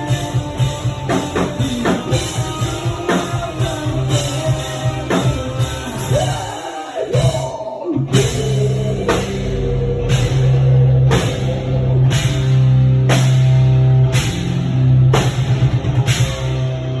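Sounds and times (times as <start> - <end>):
distorted guitar and bass: 0.0 - 17.0
heavy drums: 0.0 - 17.0.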